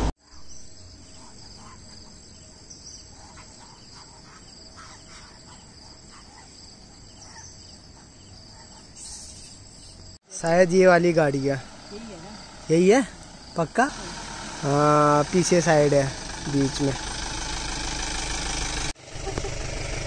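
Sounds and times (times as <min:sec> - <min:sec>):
insects singing: 0:00.2 - 0:17.8.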